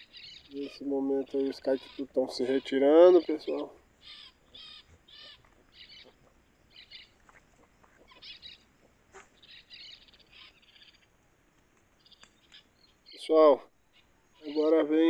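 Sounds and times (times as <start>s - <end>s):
high bird chirping: 0.0s - 11.2s, 12.0s - 15.0s.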